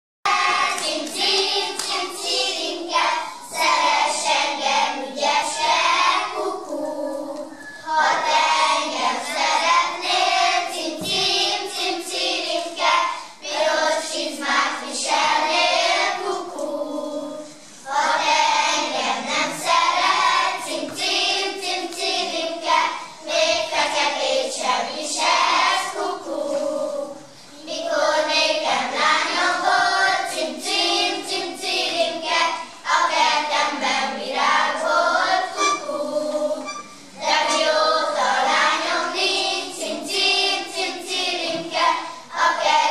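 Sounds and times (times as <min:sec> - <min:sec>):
children singing in unison: 0:00.3 - 0:42.9.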